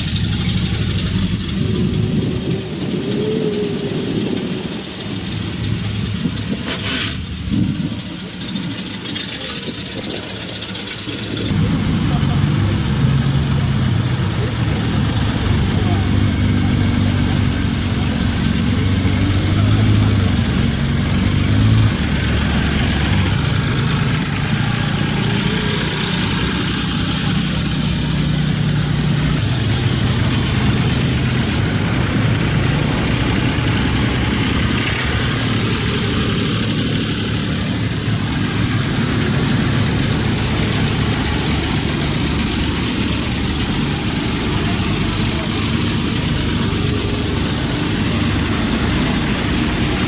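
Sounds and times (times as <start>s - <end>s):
tractor engines passing slowly: 0.0s - 50.0s.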